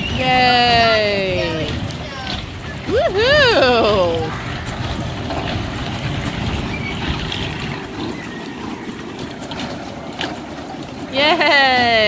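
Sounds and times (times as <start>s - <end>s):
ride machine rumbling: 0.0s - 12.0s.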